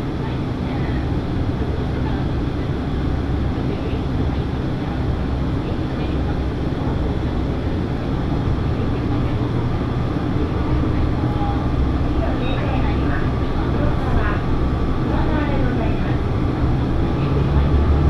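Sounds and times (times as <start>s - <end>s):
diesel engine drone: 0.0s - 18.0s
wheel-on-rail rumble: 0.0s - 18.0s.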